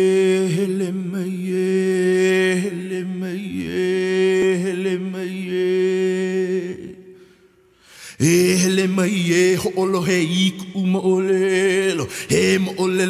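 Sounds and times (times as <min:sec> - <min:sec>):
man chanting: 0:00.0 - 0:07.2, 0:08.1 - 0:13.0.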